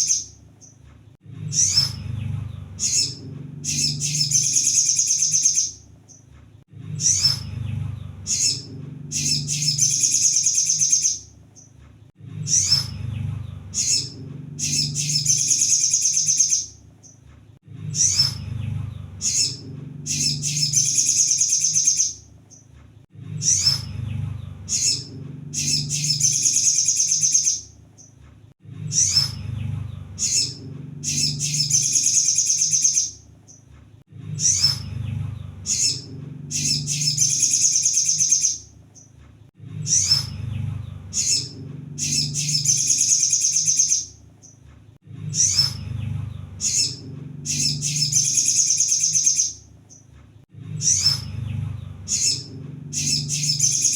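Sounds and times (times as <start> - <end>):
bird twittering song: 0.0 - 0.8, 1.4 - 11.8, 12.4 - 17.3, 17.9 - 22.7, 23.4 - 28.2, 28.8 - 33.7, 34.3 - 39.2, 39.8 - 44.6, 45.3 - 50.1, 50.8 - 53.9
low hum: 0.0 - 11.5, 12.1 - 27.9, 28.6 - 33.4, 34.1 - 38.9, 39.5 - 48.8, 50.5 - 53.9.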